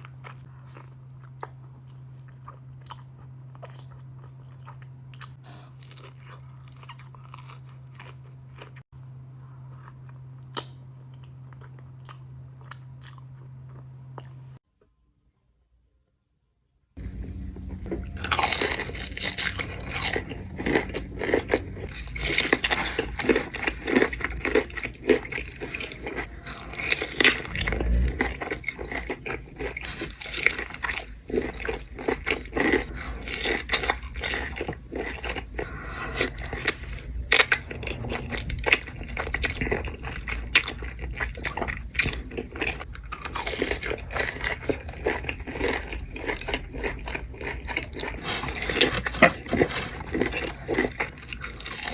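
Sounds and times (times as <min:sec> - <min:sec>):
person crunching and chewing food: 0:00.0 - 0:14.6, 0:17.0 - 0:51.9.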